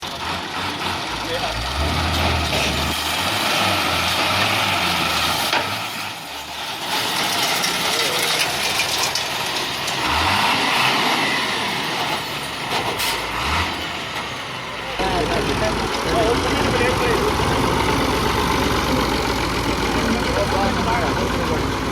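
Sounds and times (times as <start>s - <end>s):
diesel engine rumbling: 0.0s - 21.9s.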